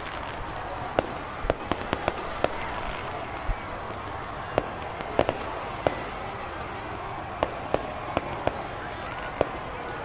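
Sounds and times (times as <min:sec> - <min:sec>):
fireworks popping and banging: 0:00.0 - 0:10.0
outdoor background noise: 0:00.0 - 0:10.0.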